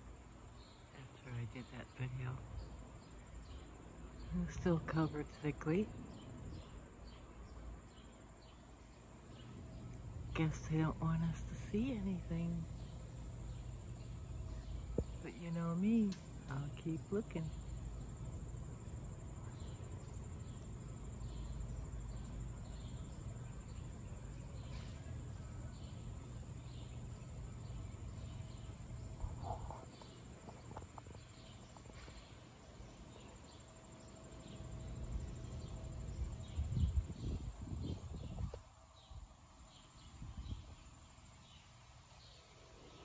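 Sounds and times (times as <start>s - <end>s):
low outdoor rumble: 0.0s - 39.2s
insects chirping: 0.0s - 43.0s.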